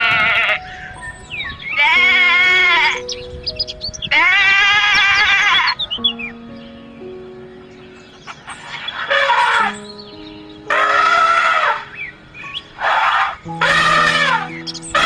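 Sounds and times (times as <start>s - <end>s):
background music: 0.0s - 15.0s
bird chirps: 0.6s - 15.0s.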